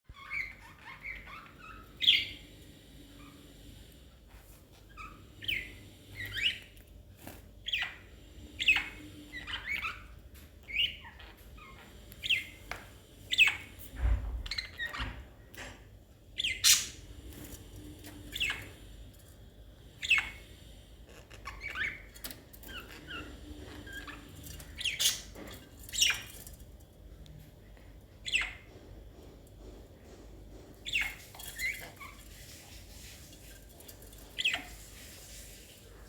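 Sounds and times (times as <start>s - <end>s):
soft twittering chatter: 0.1s - 15.2s, 16.4s - 26.8s, 27.7s - 36.0s.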